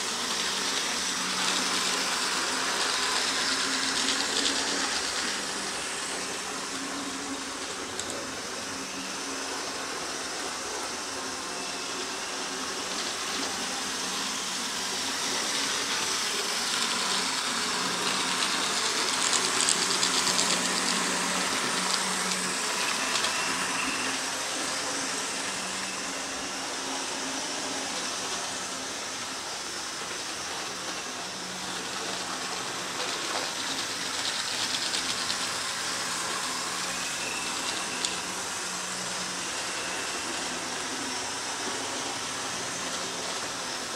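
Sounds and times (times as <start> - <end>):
model train motor whir: 0.0 - 43.9.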